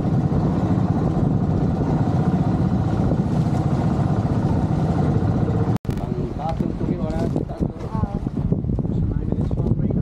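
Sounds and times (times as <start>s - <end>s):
boat engine running: 0.0s - 10.0s
water rushing along hull: 0.0s - 10.0s.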